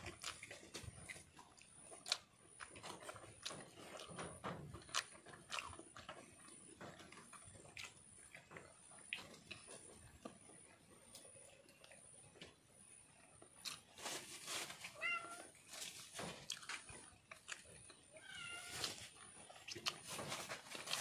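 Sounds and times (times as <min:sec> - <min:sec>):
chewing: 0:00.0 - 0:21.0.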